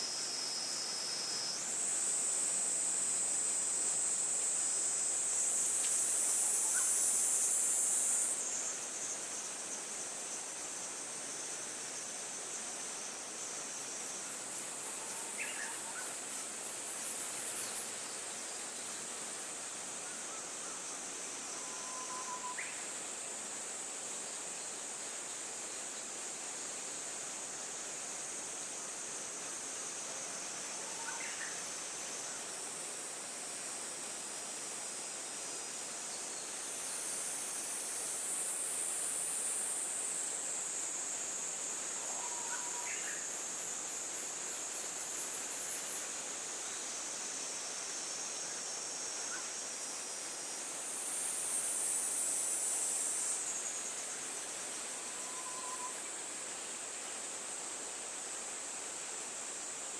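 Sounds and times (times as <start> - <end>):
insects trilling: 0.0 - 23.2, 25.5 - 58.0.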